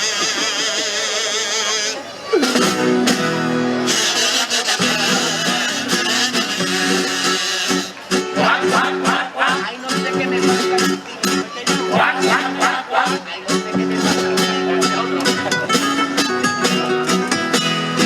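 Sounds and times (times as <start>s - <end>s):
acoustic guitars strumming: 0.0s - 18.0s.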